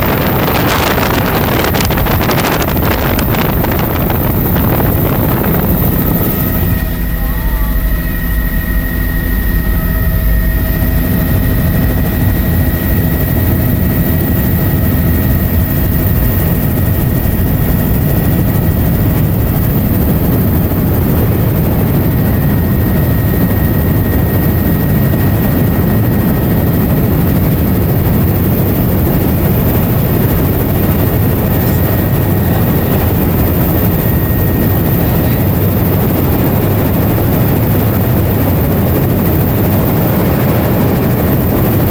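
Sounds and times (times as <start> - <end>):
helicopter rotor and engine drone: 0.0 - 41.9
thin steady whine: 0.0 - 41.9.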